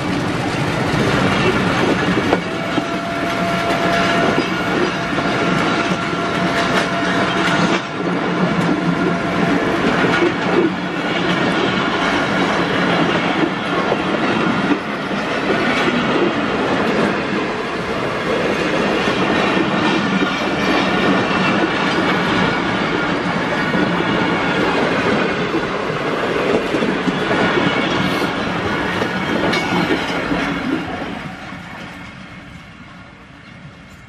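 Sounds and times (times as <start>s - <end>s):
train wheels rumbling and clacking: 0.0s - 34.0s.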